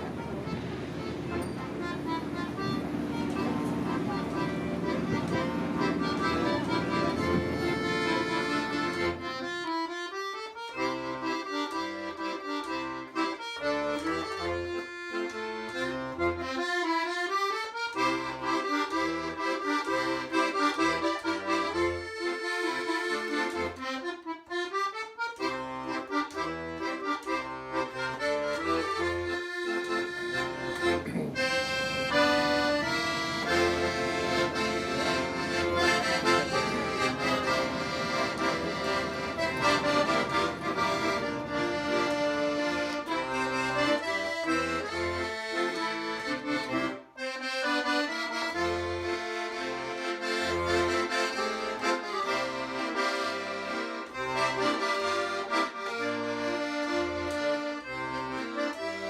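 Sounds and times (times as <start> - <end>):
accordion music: 0.0 - 59.0.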